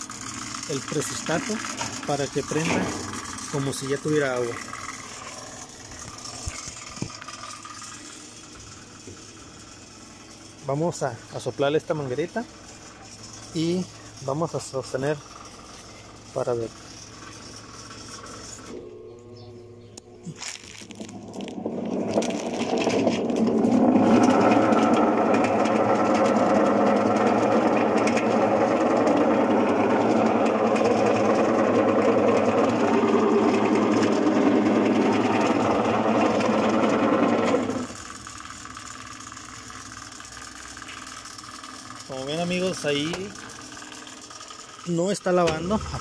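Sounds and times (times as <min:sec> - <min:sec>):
washing machine agitating: 0:00.0 - 0:18.8, 0:21.1 - 0:46.0.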